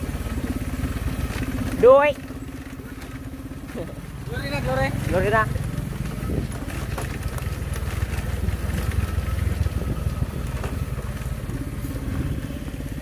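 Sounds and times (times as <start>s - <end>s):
knocks over bumpy road: 0.0s - 11.7s
motorcycle engine running: 0.0s - 13.0s.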